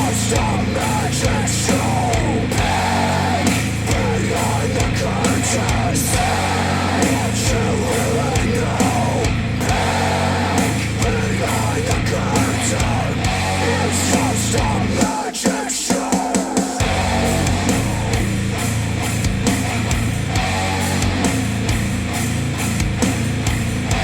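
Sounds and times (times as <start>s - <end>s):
heavy rock music: 0.0s - 24.0s.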